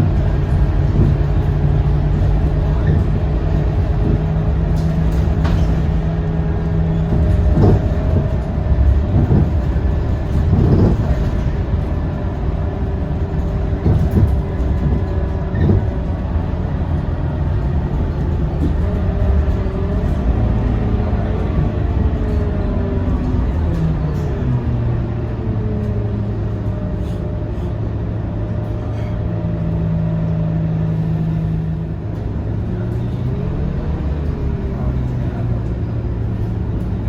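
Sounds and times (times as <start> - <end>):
bus body knocks and rattles: 0.0 - 37.0
bus diesel engine hum: 0.0 - 37.0.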